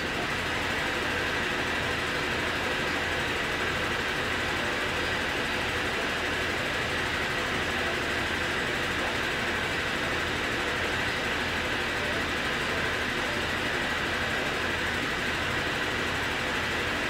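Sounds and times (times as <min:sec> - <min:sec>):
faint steady whine: 0:00.0 - 0:17.0
laundry machinery drone: 0:00.0 - 0:17.0.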